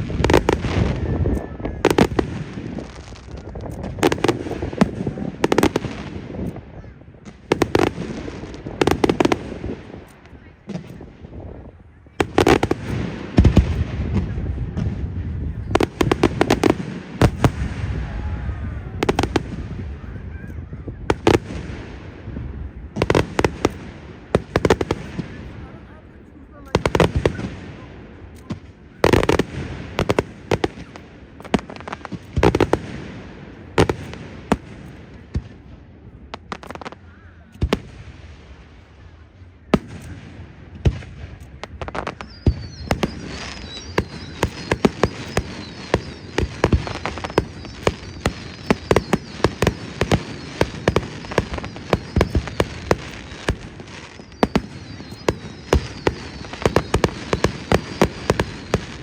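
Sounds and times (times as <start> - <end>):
booming firework bursts: 0.0 - 37.0, 37.6 - 59.0
sharp crackling firework reports: 0.0 - 59.0.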